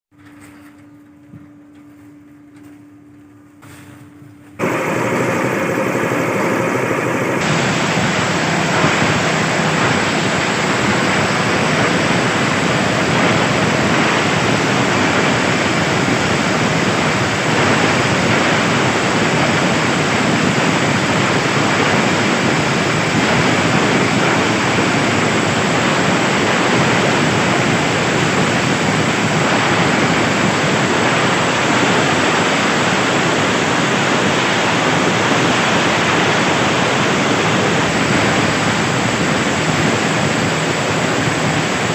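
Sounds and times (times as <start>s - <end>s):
machine rushing noise: 4.6s - 41.9s.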